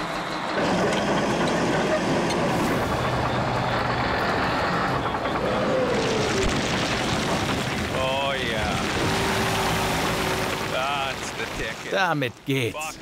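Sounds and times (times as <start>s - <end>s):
bulldozer diesel engine running: 0.0s - 11.3s.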